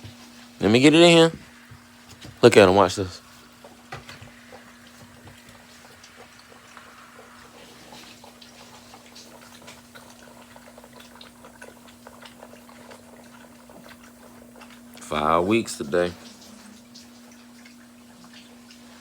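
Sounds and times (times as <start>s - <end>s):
puppies lapping water: 0.0s - 19.0s.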